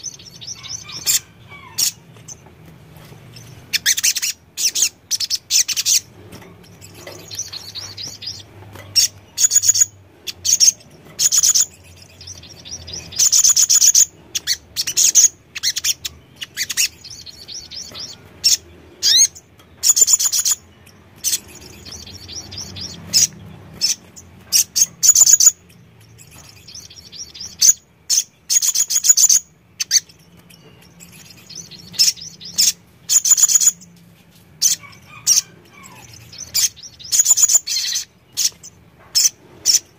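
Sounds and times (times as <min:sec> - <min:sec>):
bird singing rapid high trills: 0:00.0 - 0:02.4, 0:03.3 - 0:33.9, 0:34.6 - 0:39.9.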